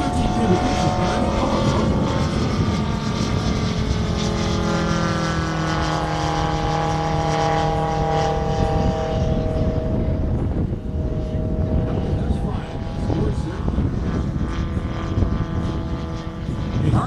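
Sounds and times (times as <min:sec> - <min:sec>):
model plane radial engine running: 0:00.0 - 0:17.0.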